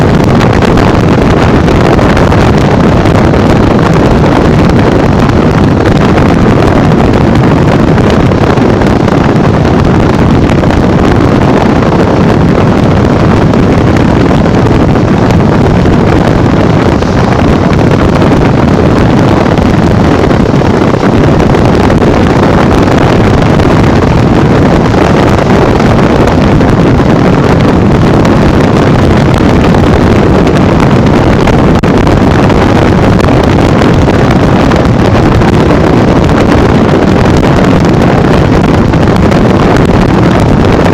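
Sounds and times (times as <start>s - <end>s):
motorcycle engine running: 0.0s - 35.8s
wind rushing over microphone: 0.0s - 40.9s.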